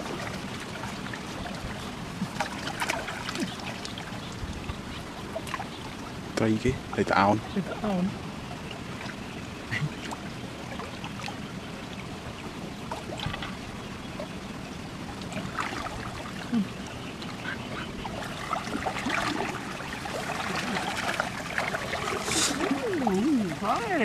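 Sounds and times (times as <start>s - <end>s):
water sloshing and splashing: 0.0s - 24.0s.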